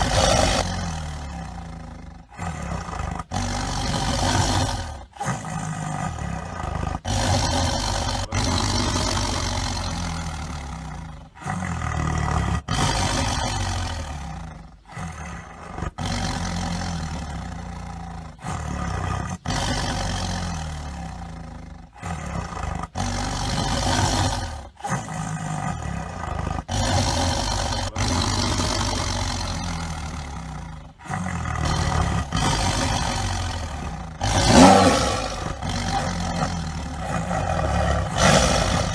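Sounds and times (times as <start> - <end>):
tigers roaring and growling: 0.0 - 38.9.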